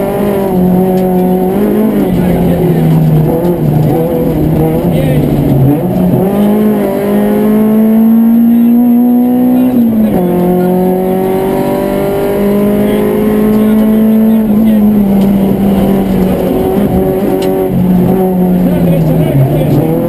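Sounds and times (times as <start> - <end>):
car engine revving from inside: 0.0 - 20.0.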